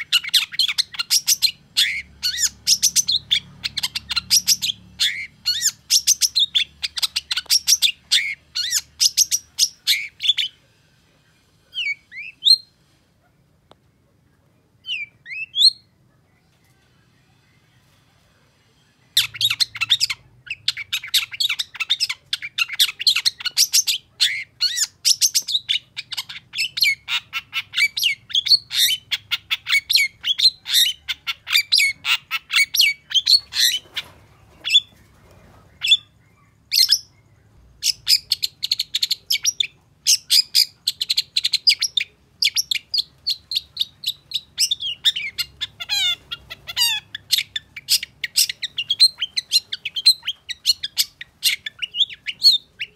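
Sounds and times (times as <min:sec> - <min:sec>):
bird chattering song: 0:00.0 - 0:10.6, 0:19.1 - 0:52.9.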